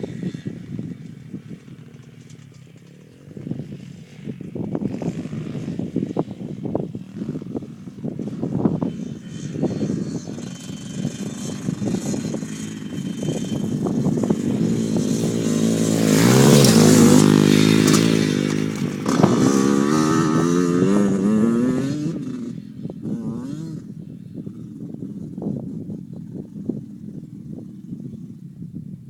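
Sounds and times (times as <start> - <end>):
dirt bike engine revving: 0.0 - 25.7.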